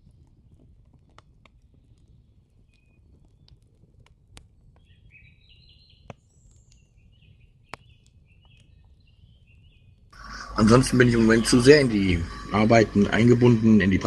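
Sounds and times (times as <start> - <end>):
faint birdsong chirping: 1.6 - 3.7, 4.7 - 14.0.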